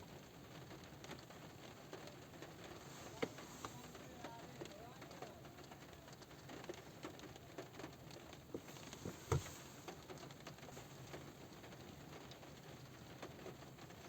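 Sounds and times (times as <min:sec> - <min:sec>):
faint hiss: 0:00.0 - 0:14.0
rain tapping on a car roof: 0:00.0 - 0:14.0.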